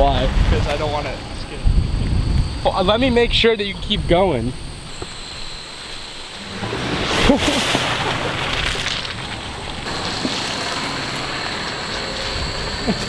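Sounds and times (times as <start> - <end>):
tyres crunching over gravel: 0.0 - 13.0.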